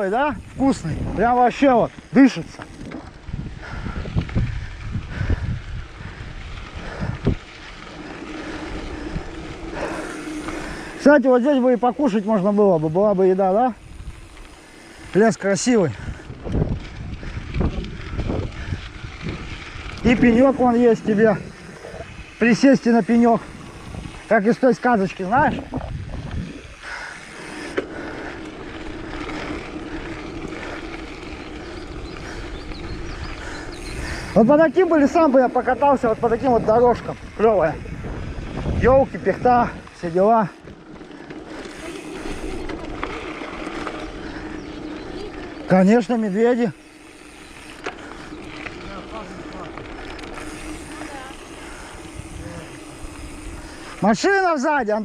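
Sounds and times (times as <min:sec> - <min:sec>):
wind buffeting microphone: 0:00.0 - 0:54.3
bike rolling over rough track: 0:00.0 - 0:55.0.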